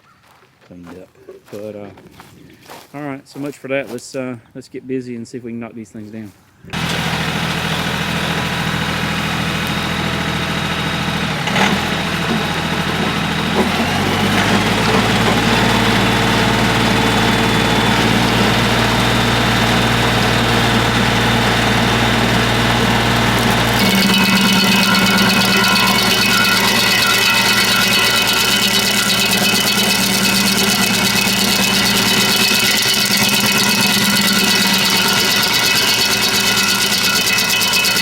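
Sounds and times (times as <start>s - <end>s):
tractor diesel engine running: 6.8s - 38.0s.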